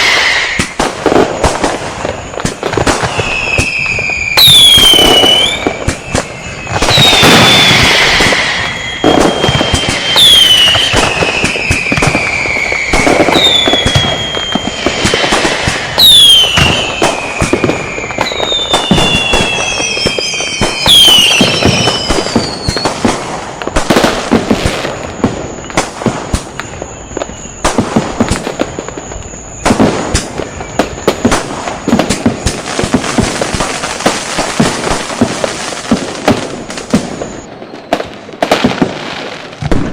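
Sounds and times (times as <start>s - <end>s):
firecracker bangs: 0.0s - 39.9s
whistling fireworks: 0.0s - 39.9s.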